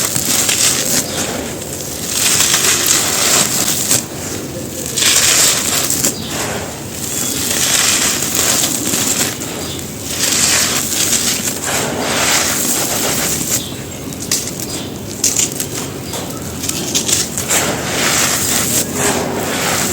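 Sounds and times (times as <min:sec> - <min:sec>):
dry dirt being crumbled: 0:00.0 - 0:19.9.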